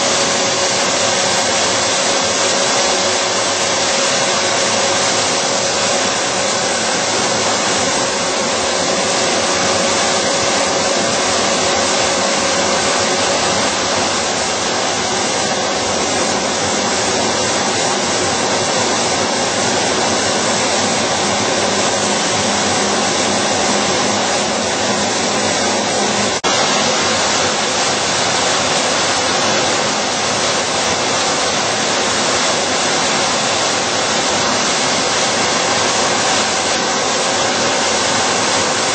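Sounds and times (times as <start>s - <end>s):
steel slitting machine running: 0.0s - 38.9s.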